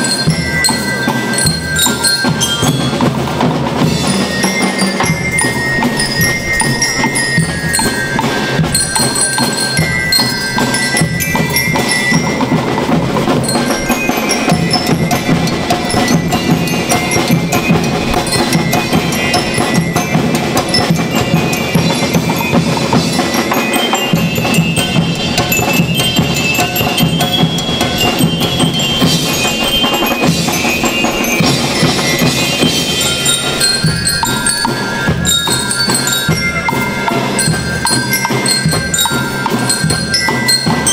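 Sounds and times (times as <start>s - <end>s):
bell lyres playing melody: 0.0s - 40.9s
drums beating: 0.0s - 40.9s.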